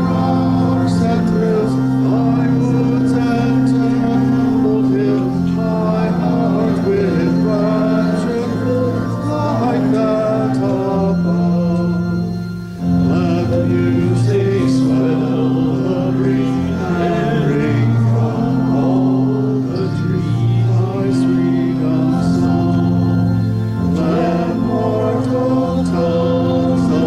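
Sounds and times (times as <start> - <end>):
choir singing sacred song: 0.0 - 27.0
organ chords: 0.0 - 27.0.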